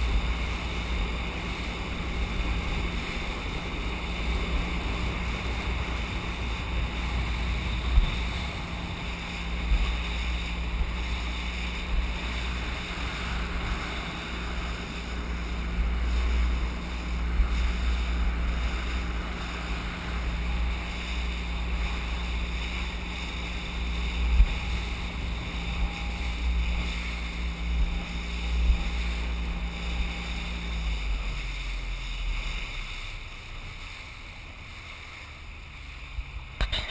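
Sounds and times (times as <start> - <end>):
hull knocking on waves: 0.0 - 31.1
outboard motor running: 0.0 - 36.9
wind rumbling on microphone: 0.0 - 36.9.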